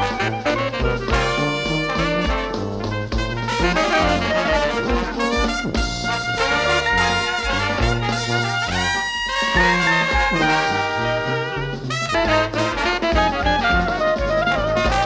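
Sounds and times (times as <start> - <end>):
upbeat brass music: 0.0 - 15.0.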